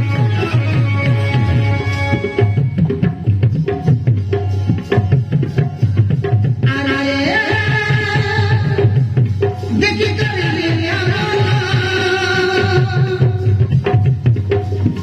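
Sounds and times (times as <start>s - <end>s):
rhythmic hand drum beat: 0.0s - 15.0s.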